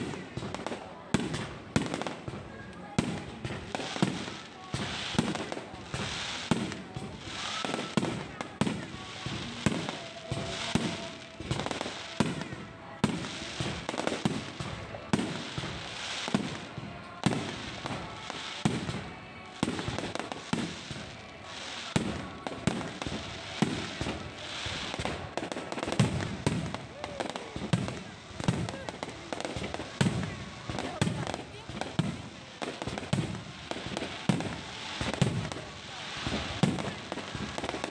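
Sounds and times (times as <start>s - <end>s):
crackling hiss: 0.0s - 37.9s
fireworks bangs: 0.0s - 37.9s.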